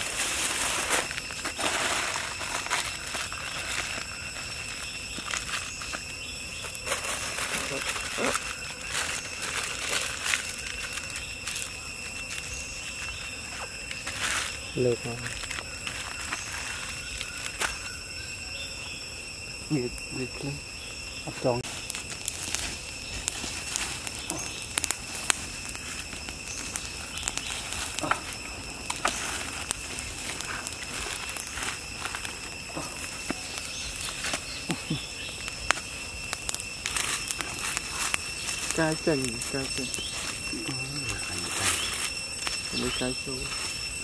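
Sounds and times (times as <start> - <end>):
aluminium foil crinkling: 0.0 - 17.9, 21.6 - 43.9
sharp pops of burning sticks: 0.0 - 18.4, 21.4 - 44.0
campfire crackling: 0.0 - 44.0.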